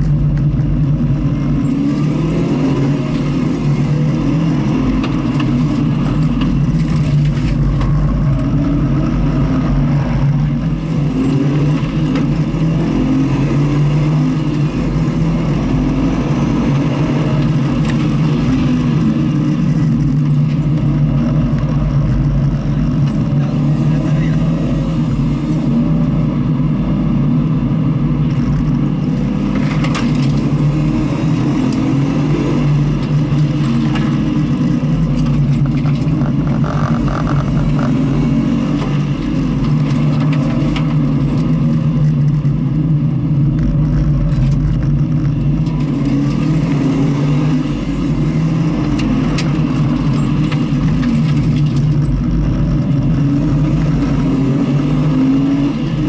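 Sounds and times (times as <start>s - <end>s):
low rumble: 0.0s - 56.0s
race car engine revving: 0.0s - 56.0s.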